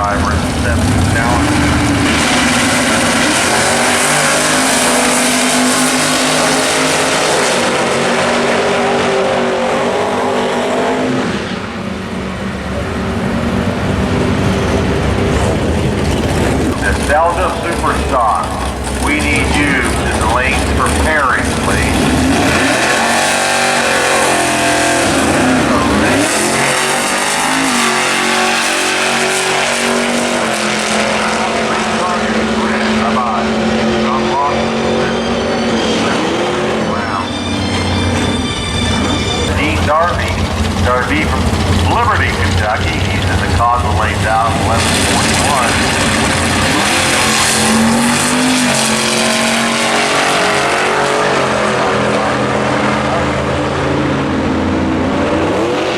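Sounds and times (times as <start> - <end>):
drag race car engines running: 0.0 - 55.9.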